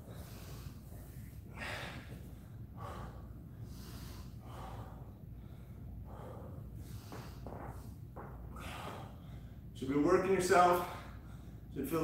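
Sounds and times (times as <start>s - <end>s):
man breathing hard: 0.0s - 9.8s, 10.8s - 11.7s.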